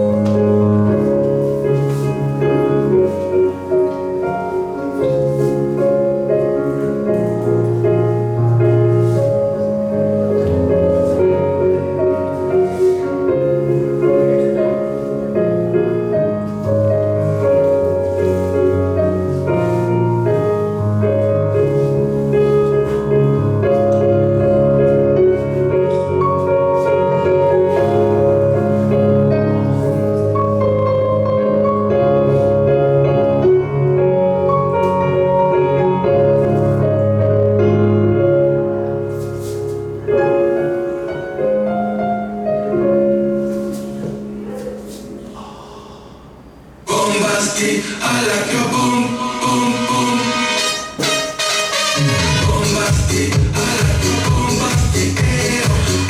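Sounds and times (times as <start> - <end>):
piano music with steady beat: 0.0 - 56.0.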